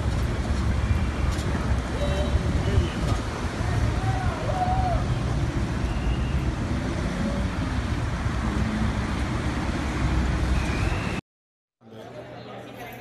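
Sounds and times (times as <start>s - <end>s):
cars passing: 0.0s - 11.2s.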